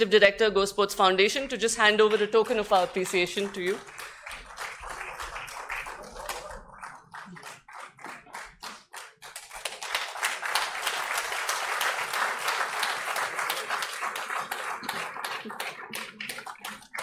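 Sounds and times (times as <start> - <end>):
audience clapping: 1.6 - 17.0.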